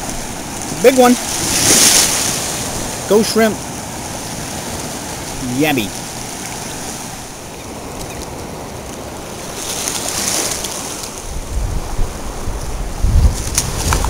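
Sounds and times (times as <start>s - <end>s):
surf washing over beach: 0.0s - 14.0s
wind on microphone: 0.0s - 14.0s.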